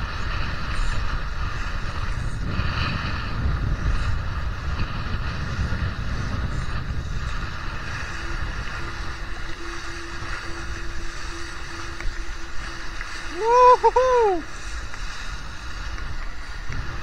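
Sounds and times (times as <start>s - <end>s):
water rushing along a boat hull: 0.0s - 17.0s
wind buffeting microphone: 0.0s - 17.0s.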